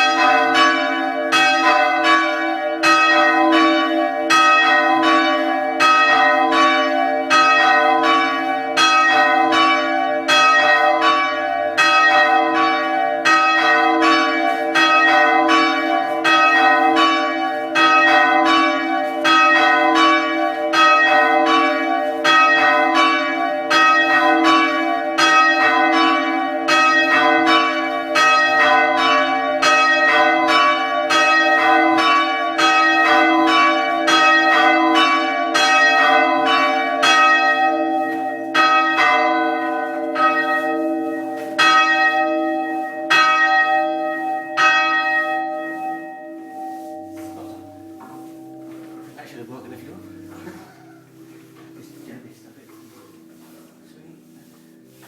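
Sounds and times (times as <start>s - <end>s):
church bells ringing: 0.0s - 55.0s.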